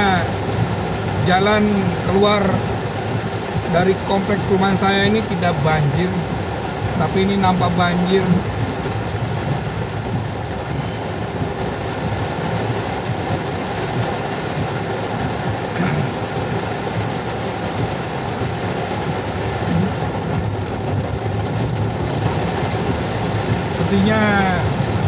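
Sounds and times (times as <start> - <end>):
car engine: 0.0 - 25.0
heavy rain drumming on car roof: 0.0 - 25.0
tyres on wet road: 0.0 - 25.0.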